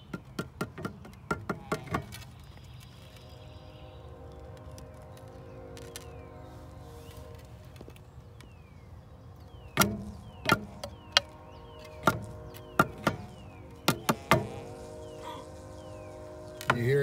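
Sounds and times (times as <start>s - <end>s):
faint steady hum: 2.3s - 17.0s.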